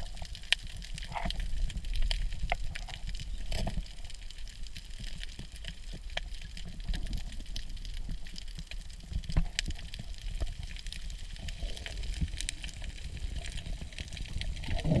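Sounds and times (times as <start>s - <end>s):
low rumble of moving water: 0.0s - 15.0s
sharp clicks and crackles: 0.0s - 15.0s.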